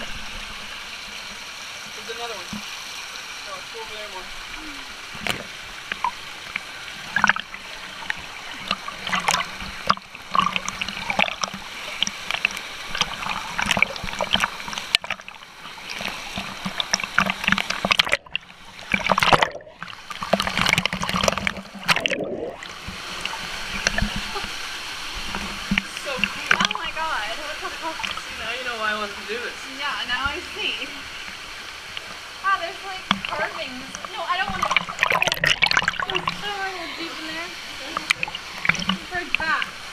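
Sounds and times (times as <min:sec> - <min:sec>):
water splashing: 0:00.0 - 0:39.9
waterfall pouring: 0:00.0 - 0:39.9.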